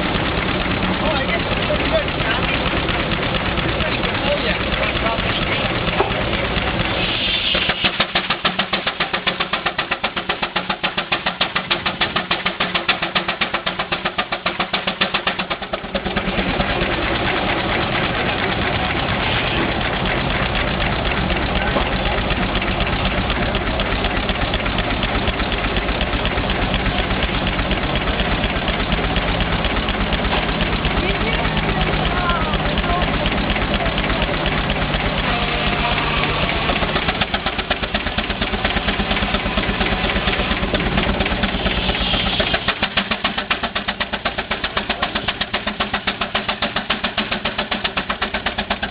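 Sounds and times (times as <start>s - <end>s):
steam engine exhaust chuffing: 0.0s - 48.9s.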